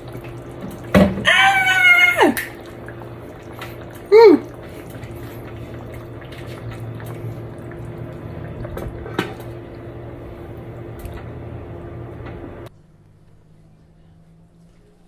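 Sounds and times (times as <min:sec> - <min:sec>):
liquid dripping: 0:00.0 - 0:12.4.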